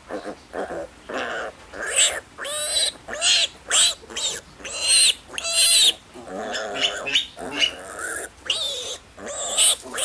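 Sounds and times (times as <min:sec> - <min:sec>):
piglet squealing: 0:00.2 - 0:10.0.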